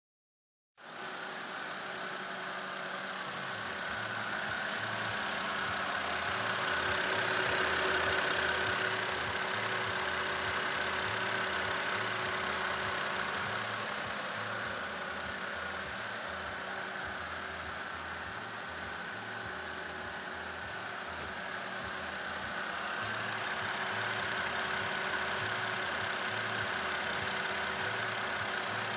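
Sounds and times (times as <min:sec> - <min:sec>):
car engine idling with ticking: 0:00.8 - 0:28.9.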